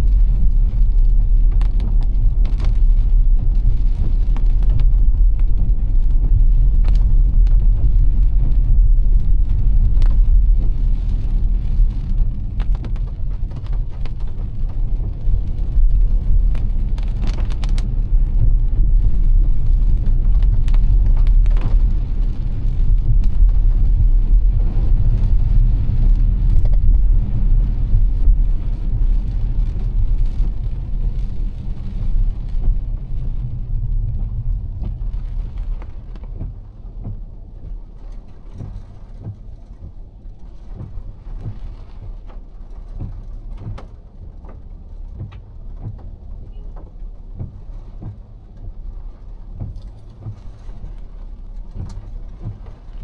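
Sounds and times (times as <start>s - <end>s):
car road rumble: 0.0s - 53.0s
raindrops ticking on car: 0.0s - 53.0s.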